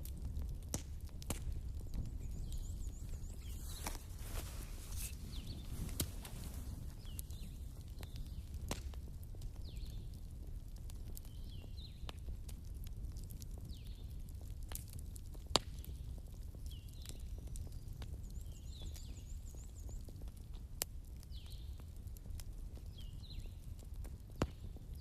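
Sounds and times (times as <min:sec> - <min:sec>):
fireplace crackling and popping: 0:00.0 - 0:25.0
low rumble of storm wind: 0:00.0 - 0:25.0.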